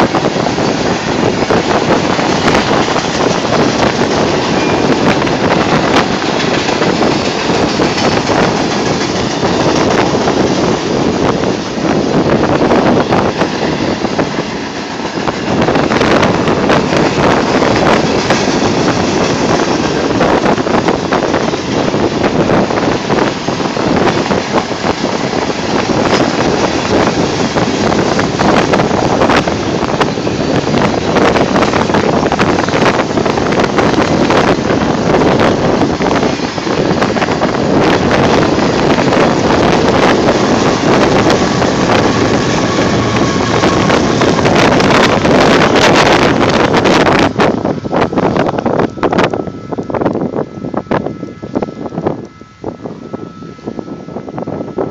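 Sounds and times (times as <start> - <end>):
freight train rumbling past: 0.0 - 54.9
wheels clicking on rails: 0.0 - 54.9
wind buffeting microphone: 0.0 - 54.9.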